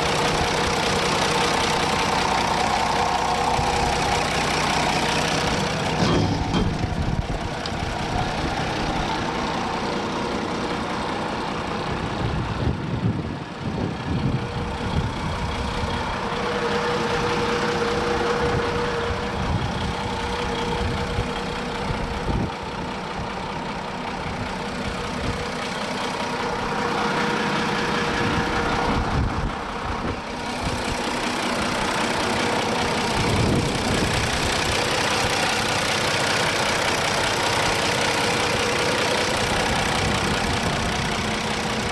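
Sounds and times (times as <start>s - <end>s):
forklift diesel engine running: 0.0s - 41.9s.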